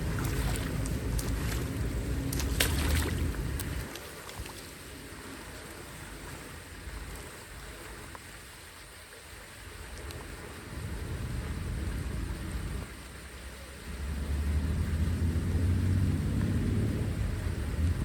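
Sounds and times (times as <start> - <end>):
wind rumble on microphone: 0.0 - 8.6, 9.4 - 18.0
running water: 0.0 - 18.0.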